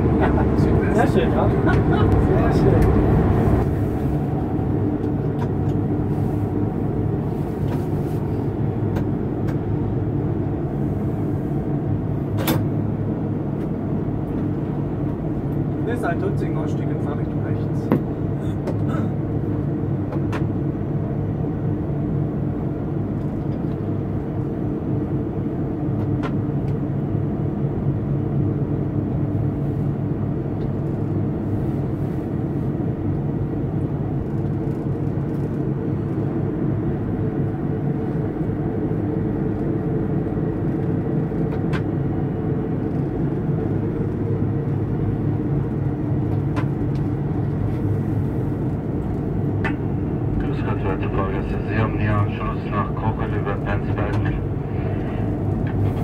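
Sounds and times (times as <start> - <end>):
locomotive cab hum and rumble: 0.0 - 56.0.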